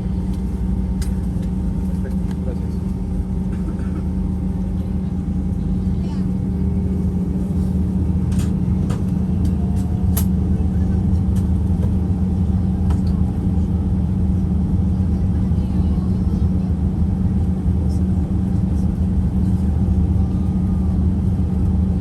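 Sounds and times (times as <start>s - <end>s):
jet engines humming: 0.0s - 22.0s.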